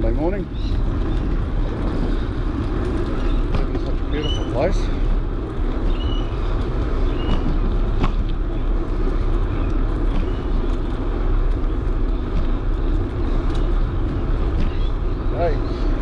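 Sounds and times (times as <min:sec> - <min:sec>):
bicycle tyre rumble: 0:00.0 - 0:16.0
wind buffeting microphone: 0:00.0 - 0:16.0.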